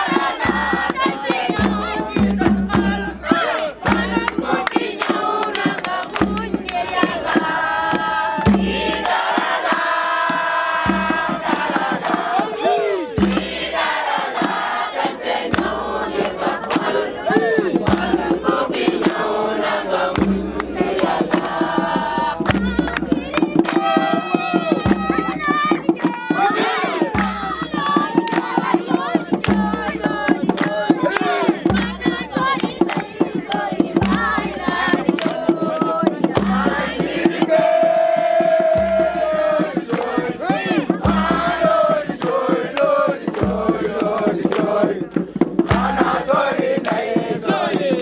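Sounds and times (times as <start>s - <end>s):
crowd singing and chanting: 0.0s - 48.0s
rhythmic sharp strokes: 0.0s - 48.0s.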